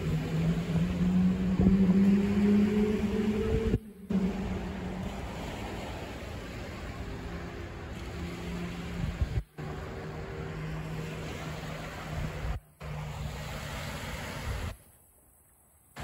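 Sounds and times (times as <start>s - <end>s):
motorboat engine drone: 0.0s - 16.0s.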